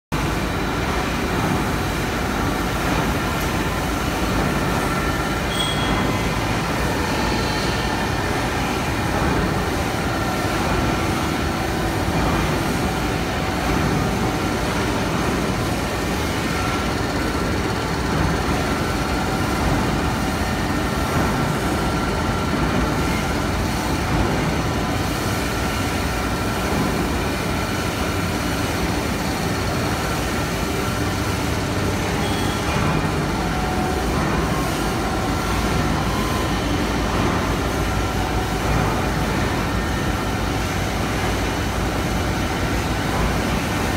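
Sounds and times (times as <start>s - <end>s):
machine rollers running: 0.2s - 43.9s.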